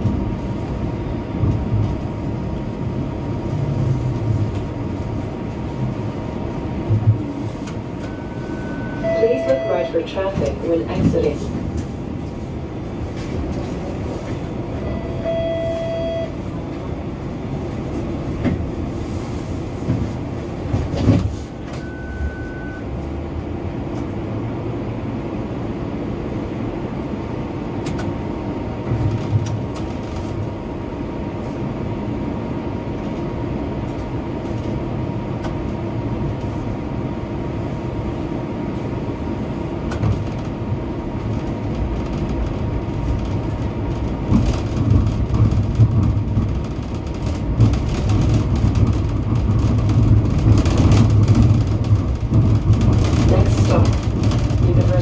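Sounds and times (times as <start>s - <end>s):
streetcar rumble and hum: 0.0s - 55.0s.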